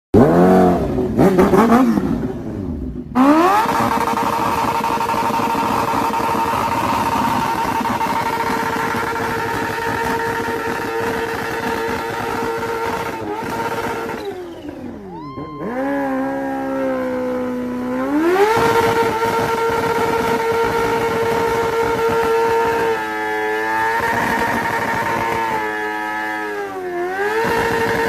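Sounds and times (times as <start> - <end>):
motorcycle engine revving high: 0.2 - 28.0.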